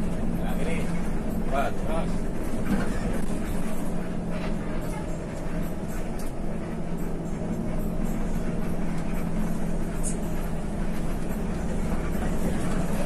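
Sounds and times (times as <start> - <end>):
bus engine hum: 0.0 - 13.0
road and tyre rumble: 0.0 - 13.0.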